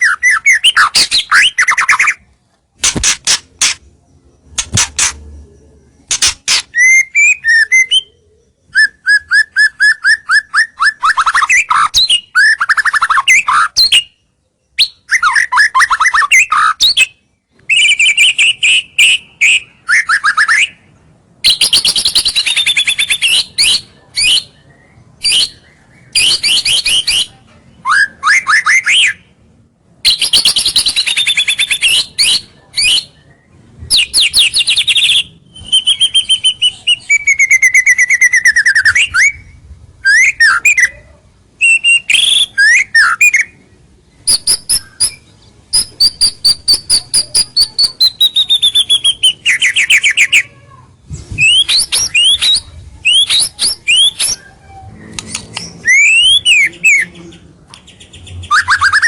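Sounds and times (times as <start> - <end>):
bird singing whistles and trills: 0.0 - 2.3, 3.6 - 29.3, 30.0 - 41.0, 41.6 - 43.6, 44.2 - 50.4, 51.3 - 57.2, 57.8 - 59.0.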